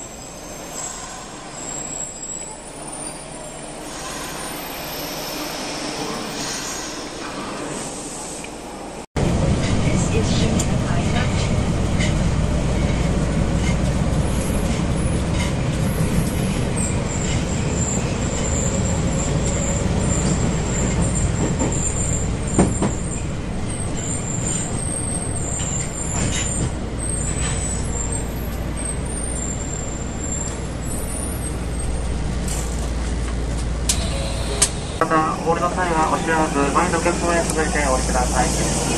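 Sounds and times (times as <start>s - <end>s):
subway train rumbling: 0.0s - 38.9s.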